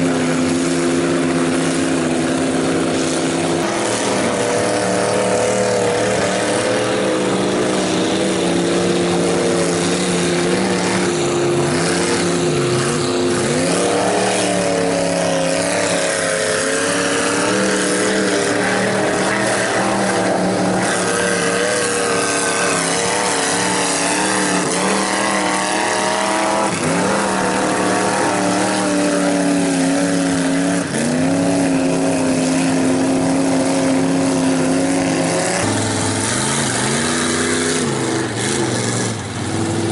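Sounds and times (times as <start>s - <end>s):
truck engine revving: 0.0s - 39.9s
wheels spinning in mud: 0.0s - 39.9s.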